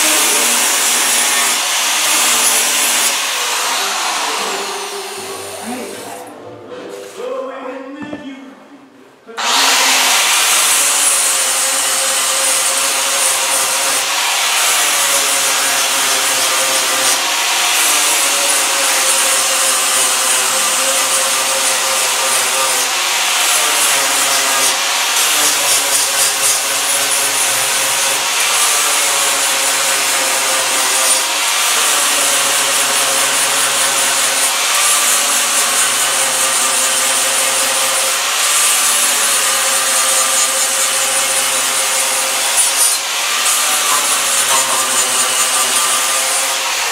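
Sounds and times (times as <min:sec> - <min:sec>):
electric grinder grinding metal: 0:00.0 - 0:06.2, 0:09.4 - 0:46.9.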